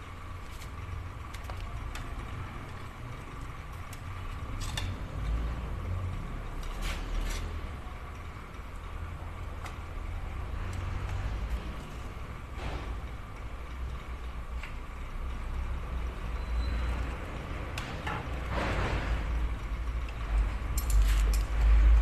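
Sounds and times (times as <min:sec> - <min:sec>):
faint constant hum: 0:00.0 - 0:22.0.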